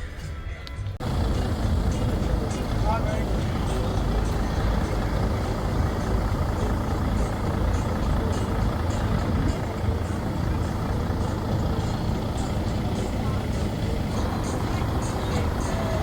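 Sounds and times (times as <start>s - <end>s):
engine idling: 0.0s - 16.0s
faint voices: 0.0s - 16.0s.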